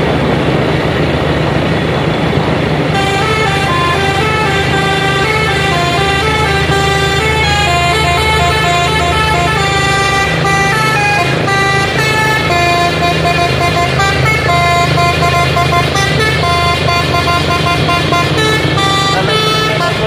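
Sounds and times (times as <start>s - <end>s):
multi-tone horn playing a tune: 2.9s - 20.0s.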